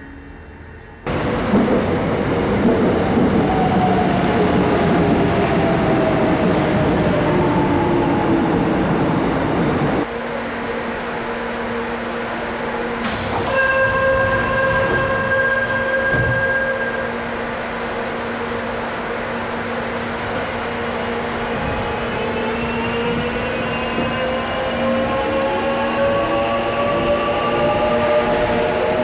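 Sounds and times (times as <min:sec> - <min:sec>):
subway train slowing with whine: 0:00.0 - 0:29.0.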